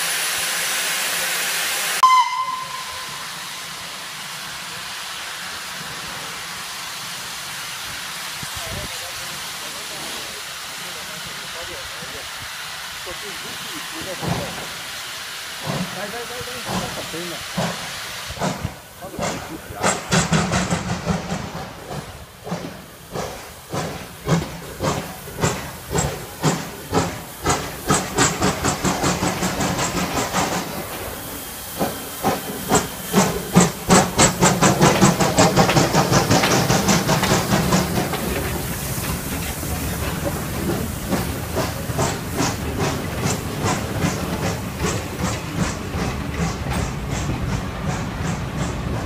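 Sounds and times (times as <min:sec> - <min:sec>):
steam hissing: 0:00.0 - 0:49.0
steam locomotive chuffing: 0:00.0 - 0:49.0.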